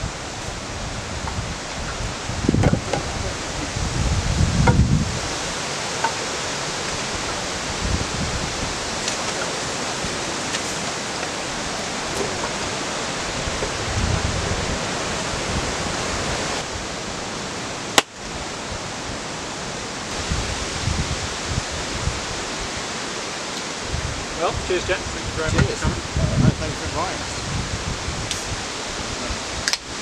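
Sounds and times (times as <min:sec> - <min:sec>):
wind buffeting the microphone: 0:00.0 - 0:30.0.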